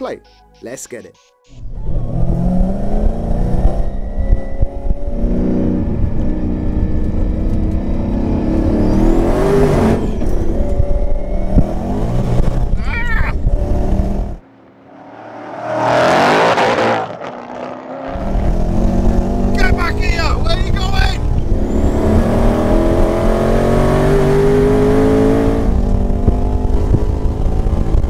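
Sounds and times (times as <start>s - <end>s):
car engine running at low revs: 1.6s - 14.4s, 18.1s - 28.0s.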